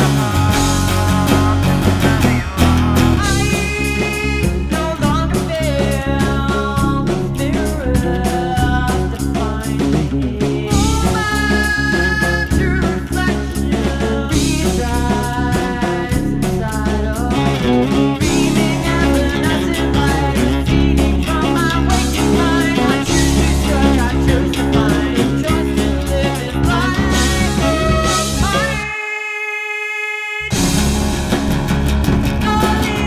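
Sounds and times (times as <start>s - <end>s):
rock band recording: 0.0s - 29.0s, 30.4s - 33.0s.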